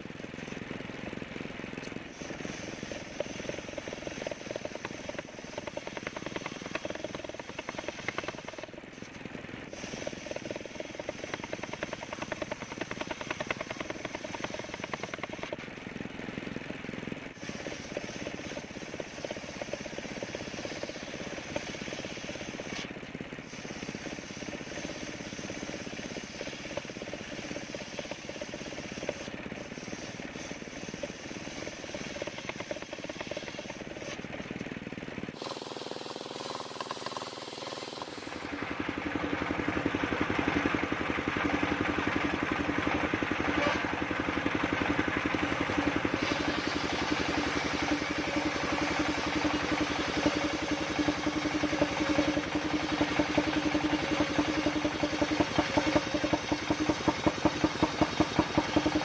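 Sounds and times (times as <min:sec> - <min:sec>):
engine-driven sawmill running: 0:00.0 - 0:59.0.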